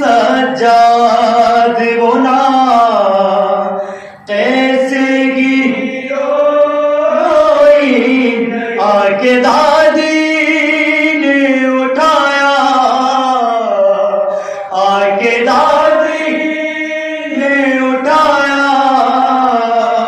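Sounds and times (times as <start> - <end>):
group of men singing along: 0.0 - 20.0
man chanting into a microphone: 0.0 - 20.0.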